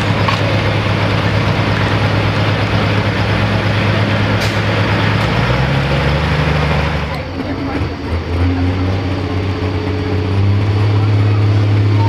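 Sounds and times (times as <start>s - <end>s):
tractor engine running loud: 0.0s - 12.0s.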